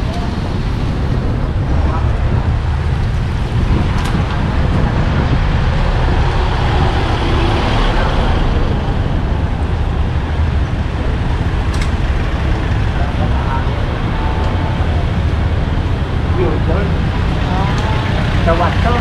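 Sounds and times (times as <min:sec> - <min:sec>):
road traffic rumble: 0:00.0 - 0:19.0
vehicle passing: 0:00.0 - 0:19.0.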